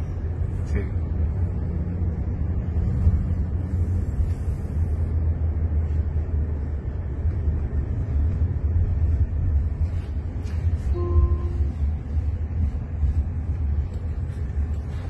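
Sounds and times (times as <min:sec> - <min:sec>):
road and tyre rumble in car cabin: 0:00.0 - 0:15.0.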